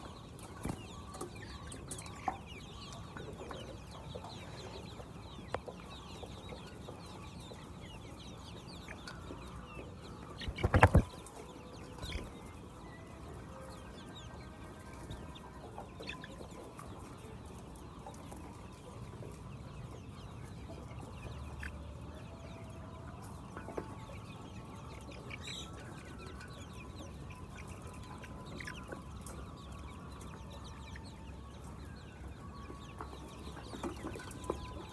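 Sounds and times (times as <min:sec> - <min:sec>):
hens clucking: 0:00.0 - 0:34.9.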